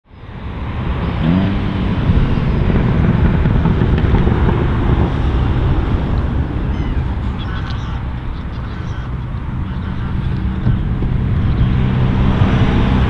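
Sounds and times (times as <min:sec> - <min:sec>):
car engine accelerating hard: 0:00.3 - 0:13.0.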